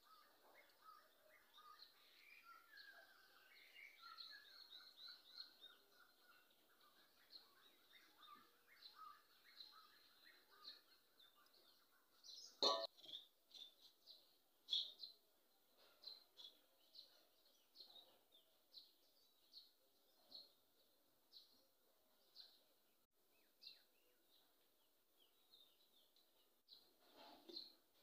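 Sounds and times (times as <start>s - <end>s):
faint bird chirping: 0.0s - 28.0s.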